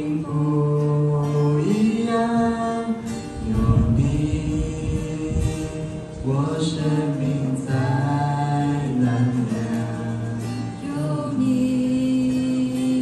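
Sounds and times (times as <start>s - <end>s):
acoustic guitar: 0.0s - 13.0s
choir singing slow song: 0.0s - 13.0s.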